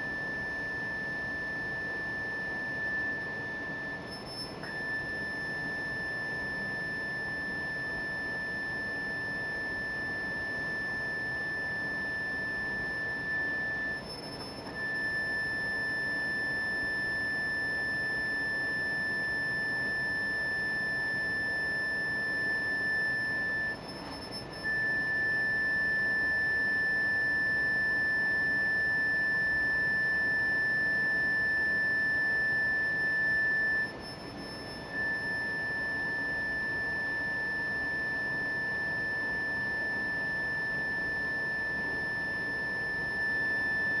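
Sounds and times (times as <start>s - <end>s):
high steady sine tone: 0.0s - 44.0s.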